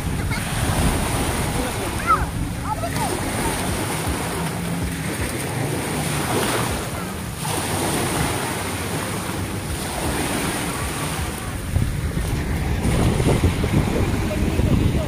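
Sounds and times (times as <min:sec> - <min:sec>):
jet ski engine faintly humming: 0:00.0 - 0:15.0
small waves washing ashore: 0:00.0 - 0:15.0
wind buffeting microphone: 0:00.0 - 0:15.0.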